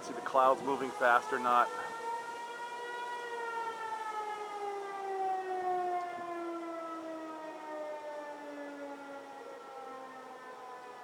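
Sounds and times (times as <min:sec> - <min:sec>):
tornado warning siren wailing: 0:00.0 - 0:11.0.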